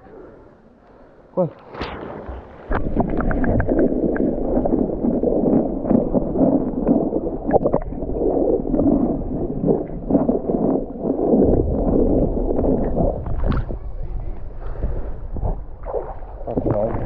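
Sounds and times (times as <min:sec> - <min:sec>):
muffled underwater rush and gurgle: 0:00.0 - 0:17.0.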